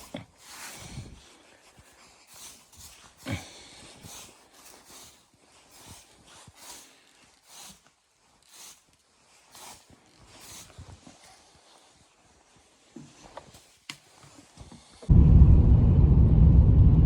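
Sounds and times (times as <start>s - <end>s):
footsteps crunching in snow: 0.0s - 13.8s.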